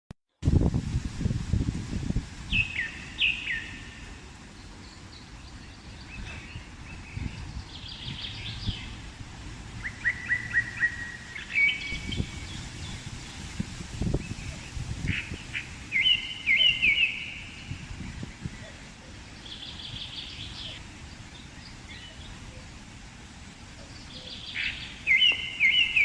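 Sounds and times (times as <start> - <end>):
wind buffeting microphone: 0.4 - 26.0
birds chirping: 2.5 - 26.0.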